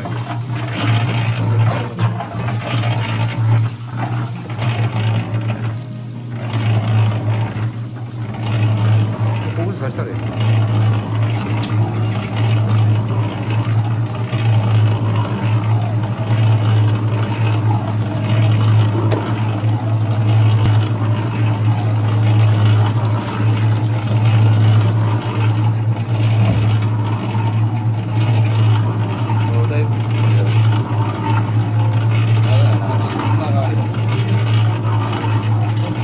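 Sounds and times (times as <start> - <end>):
concrete mixer running: 0.0 - 36.0.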